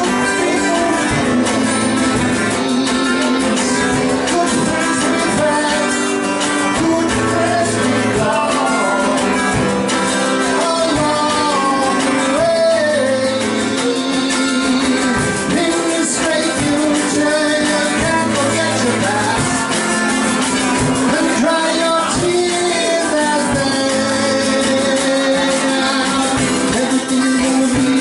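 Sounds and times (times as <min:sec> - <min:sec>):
drum kit beat: 0:00.0 - 0:28.0
man singing: 0:00.0 - 0:28.0
strummed acoustic guitar: 0:00.0 - 0:28.0.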